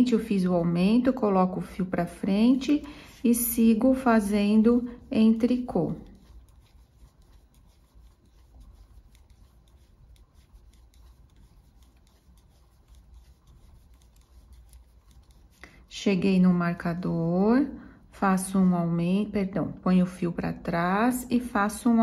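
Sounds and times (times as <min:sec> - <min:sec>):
yarn rubbing: 0:00.0 - 0:19.3.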